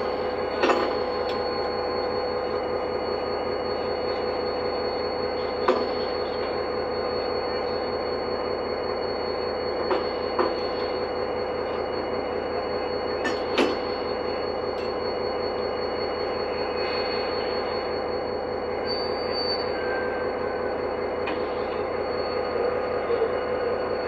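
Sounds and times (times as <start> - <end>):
diesel locomotive droning: 0.0 - 24.0.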